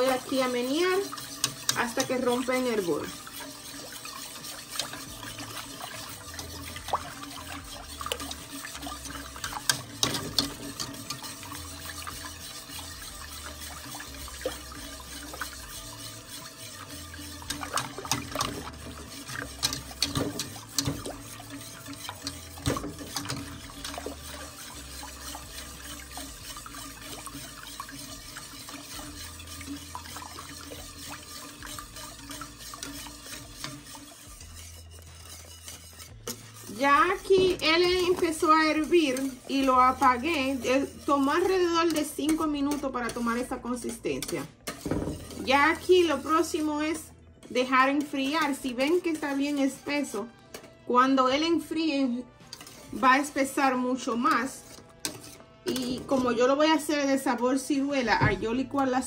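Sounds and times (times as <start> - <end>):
liquid swishing in a pot: 0.0 - 59.0
utensil scraping against a pot: 0.0 - 59.0.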